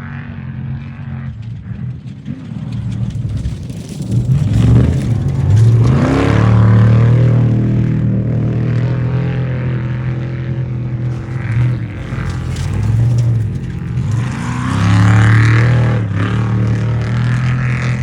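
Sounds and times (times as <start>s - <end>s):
race vehicle engine accelerating: 1.3s - 18.0s.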